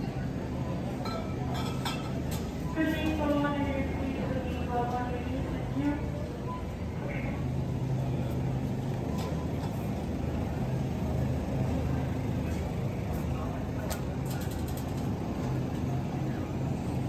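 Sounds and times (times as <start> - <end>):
faint distant voices: 0.0 - 17.0.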